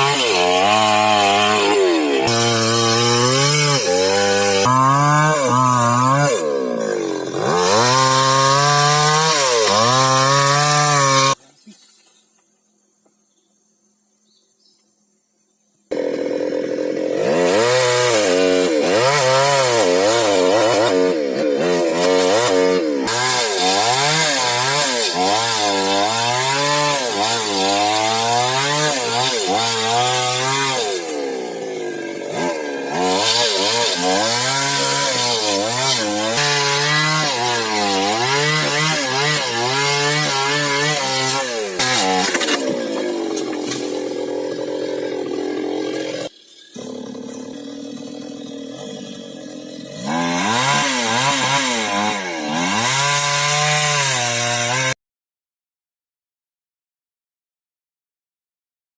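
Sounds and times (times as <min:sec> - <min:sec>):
chainsaw cutting timber: 0:00.0 - 0:11.4, 0:15.9 - 0:55.0.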